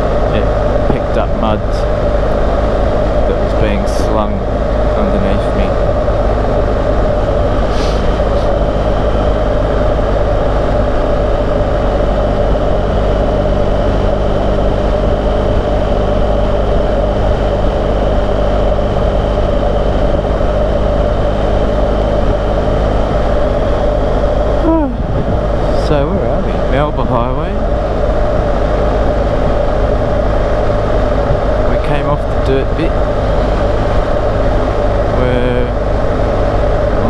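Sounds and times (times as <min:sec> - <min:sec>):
motorcycle engine cruising: 0:00.0 - 0:37.0
wind noise: 0:00.0 - 0:37.0.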